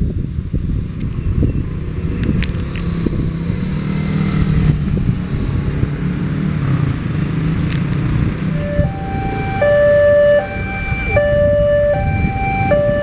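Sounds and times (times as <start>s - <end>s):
road traffic: 0.0s - 13.0s
vehicle engine humming: 0.0s - 13.0s
wind buffeting microphone: 0.0s - 13.0s.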